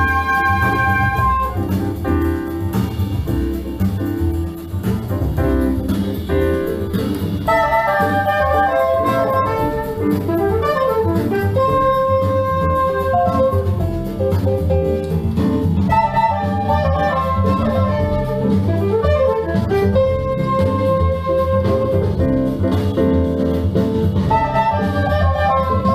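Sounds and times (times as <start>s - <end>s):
jazz over loudspeakers: 0.0s - 25.9s.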